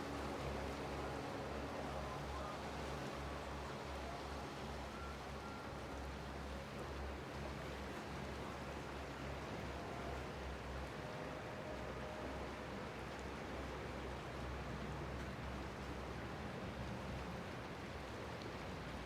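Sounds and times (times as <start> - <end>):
sea and wind noise: 0.0 - 19.0.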